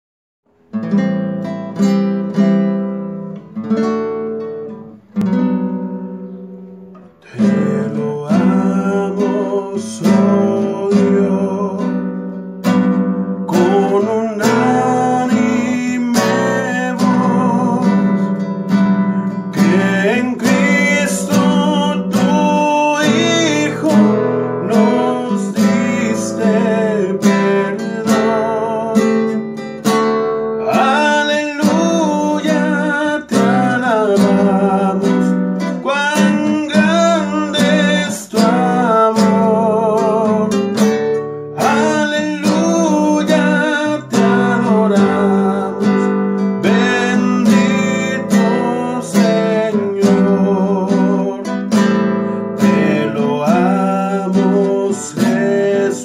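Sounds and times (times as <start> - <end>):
classical guitar chords: 0.4 - 56.0
man singing: 7.1 - 30.0, 30.6 - 56.0.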